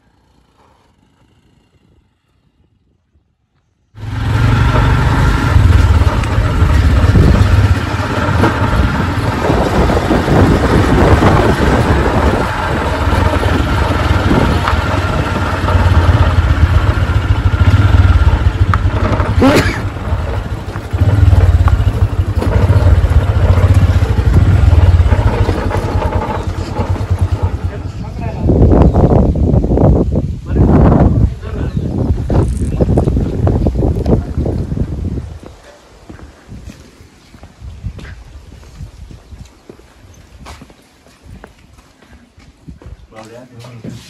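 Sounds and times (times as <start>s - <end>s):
motor vehicle rumbling: 0.0s - 44.0s.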